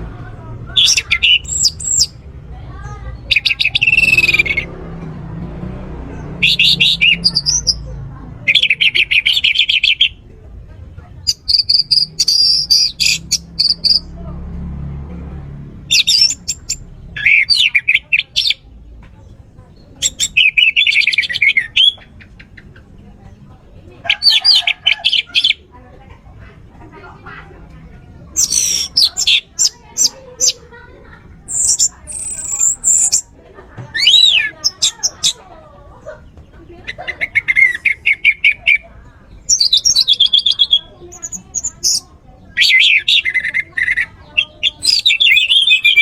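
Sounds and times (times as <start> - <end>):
thrush singing: 0.0 - 46.0.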